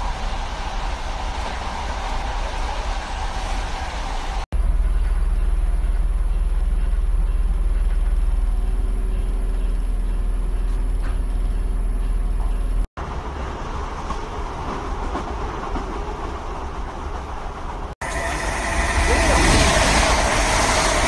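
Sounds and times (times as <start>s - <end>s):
moving train noise: 0.0s - 21.0s
train low rumble: 0.0s - 21.0s.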